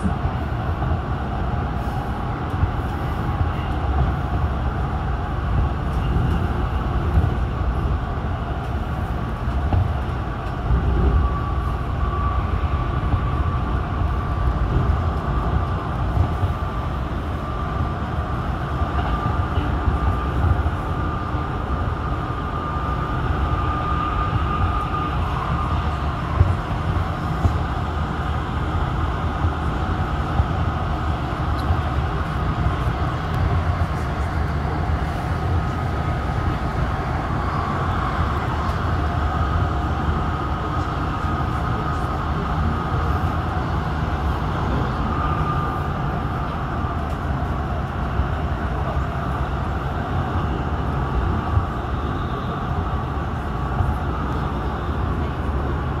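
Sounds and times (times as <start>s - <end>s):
rumble of train wheels on track: 0.0s - 56.0s.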